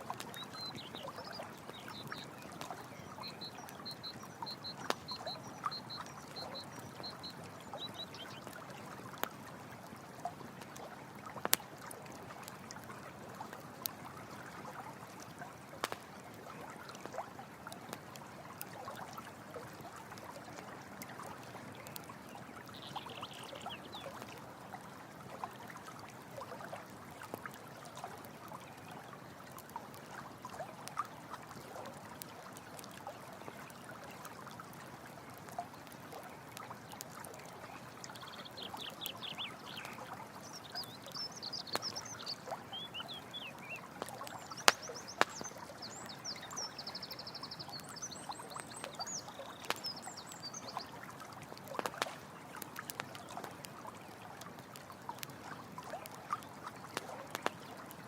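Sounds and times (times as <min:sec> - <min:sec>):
campfire crackling: 0:00.0 - 0:58.0
stream water flowing: 0:00.0 - 0:58.0.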